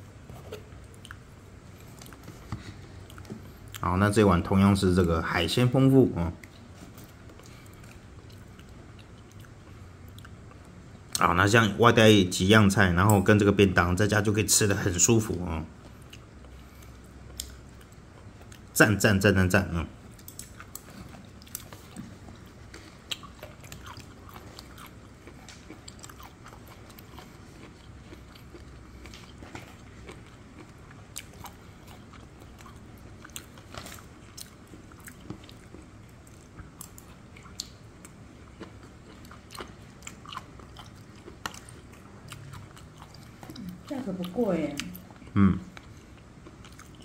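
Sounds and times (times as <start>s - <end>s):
person chewing food: 0.0s - 3.9s, 6.4s - 11.2s, 15.7s - 18.8s, 20.0s - 47.0s.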